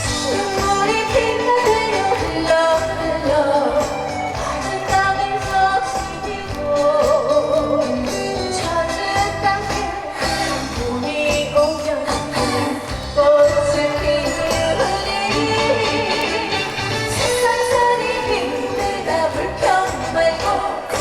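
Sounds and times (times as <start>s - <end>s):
woman singing: 0.0s - 21.0s.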